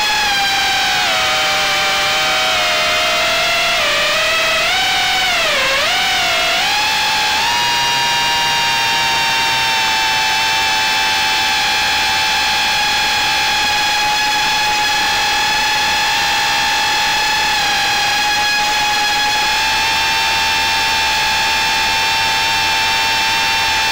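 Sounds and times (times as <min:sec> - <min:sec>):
drone motors whining: 0:00.0 - 0:23.9.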